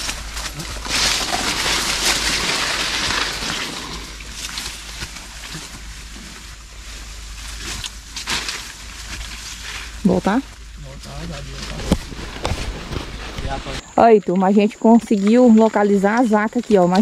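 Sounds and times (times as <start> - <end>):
brush rustling and scraping: 0.0 - 13.9
twigs crackling and snapping: 0.0 - 13.9.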